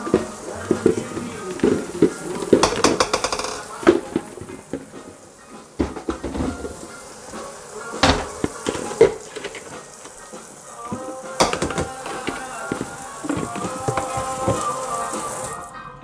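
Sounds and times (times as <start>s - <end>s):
dishes and utensils clinking: 0.0s - 16.0s.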